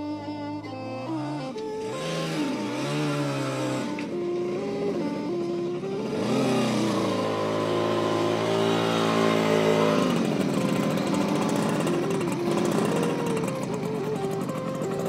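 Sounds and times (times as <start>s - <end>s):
background music: 0.0s - 15.0s
motorcycle engine running: 1.2s - 15.0s.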